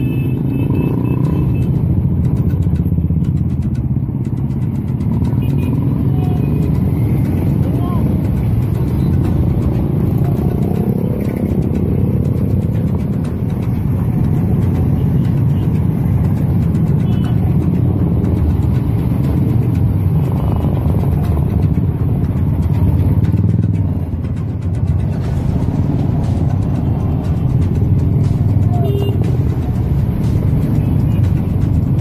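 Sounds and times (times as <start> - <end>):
motorcycles riding past: 0.0 - 32.0.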